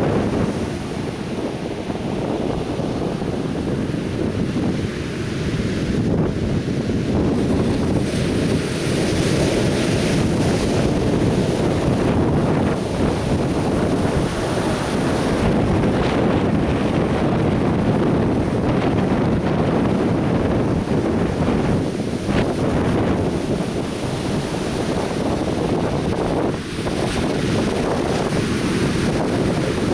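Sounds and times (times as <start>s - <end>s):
surf breaking on a beach: 0.0s - 29.9s
wind buffeting microphone: 0.0s - 29.9s.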